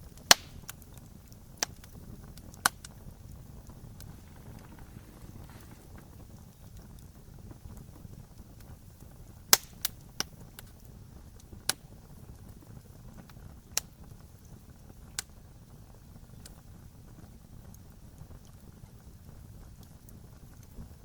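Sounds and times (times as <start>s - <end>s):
burning wood popping: 0.0s - 21.0s
low rumble of flames: 0.0s - 21.0s.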